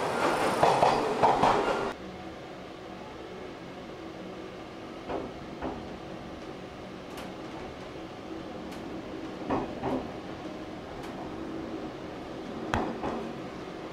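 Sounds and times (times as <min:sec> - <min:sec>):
train engines humming: 0:00.0 - 0:13.9.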